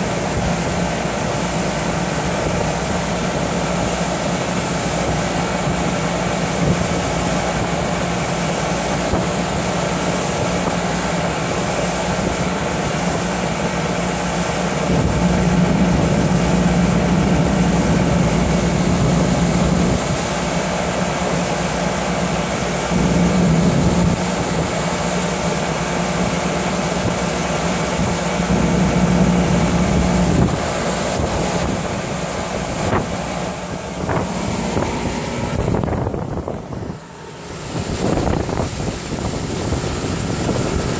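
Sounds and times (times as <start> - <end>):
outboard motor running: 0.0 - 40.9
rushing water: 0.0 - 40.9
wind buffeting microphone: 1.8 - 40.9.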